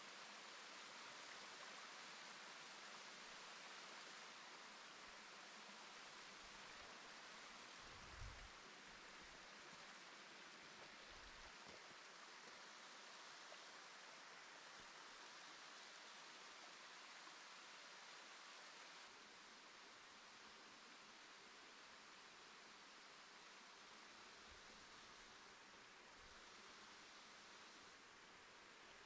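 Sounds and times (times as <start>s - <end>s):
small waterfall hiss: 0.0s - 29.0s.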